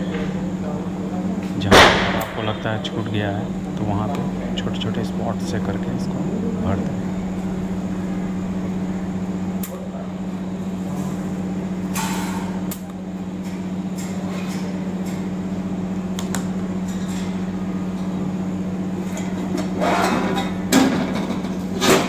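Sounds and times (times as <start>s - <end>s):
welding set humming: 0.0s - 22.0s.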